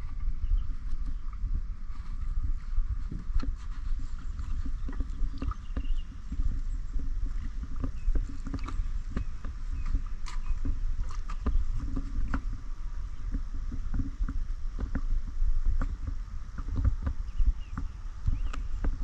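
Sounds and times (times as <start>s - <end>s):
low rumble: 0.0s - 19.0s
paddle splashing water: 0.0s - 19.0s.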